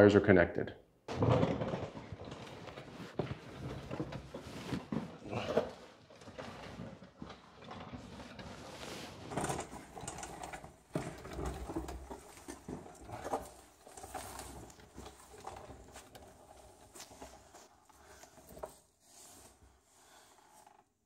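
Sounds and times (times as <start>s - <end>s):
clothing scraping on floor: 1.1s - 21.0s.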